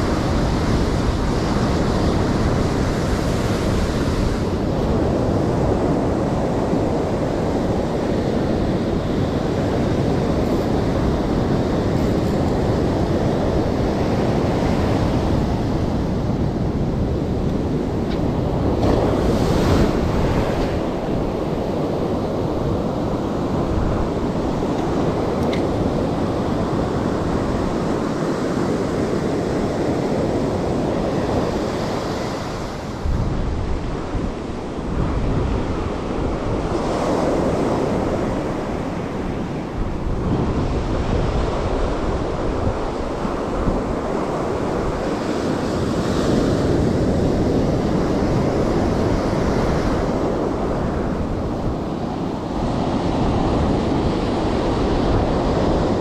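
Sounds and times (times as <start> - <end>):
surf breaking on a beach: 0.0 - 56.0
wind buffeting microphone: 0.0 - 56.0.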